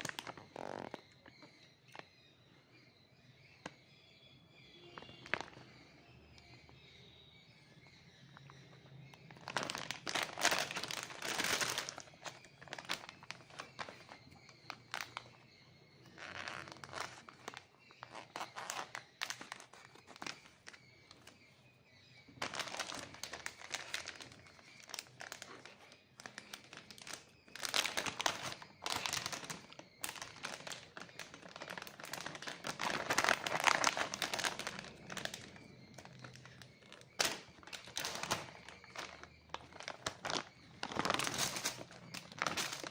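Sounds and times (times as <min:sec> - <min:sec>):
plastic wrapper crinkling: 0:00.0 - 0:02.1, 0:04.9 - 0:05.8, 0:09.3 - 0:15.4, 0:16.1 - 0:21.5, 0:22.4 - 0:42.9.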